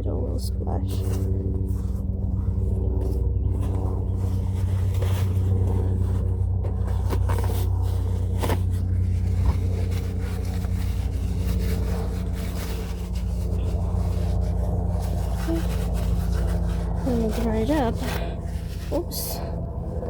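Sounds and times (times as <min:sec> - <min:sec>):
low motor hum: 0:00.0 - 0:20.0
tissue rubbing on metal: 0:00.9 - 0:20.0.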